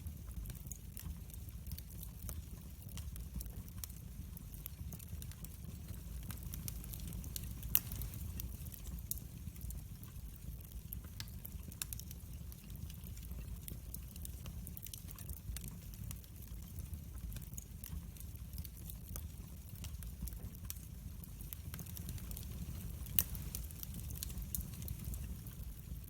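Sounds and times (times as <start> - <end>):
wood fire crackling: 0.0 - 26.0
loud fire snap: 0.1 - 26.0.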